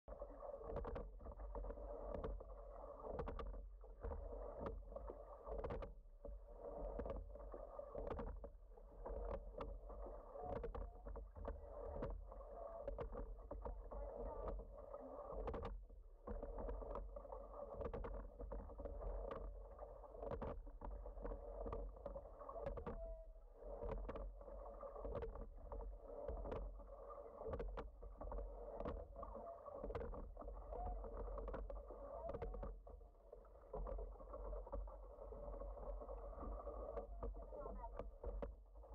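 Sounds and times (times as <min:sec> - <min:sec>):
oars and rigging clicking: 0:00.1 - 0:38.9
water rushing along a hull: 0:00.1 - 0:38.9.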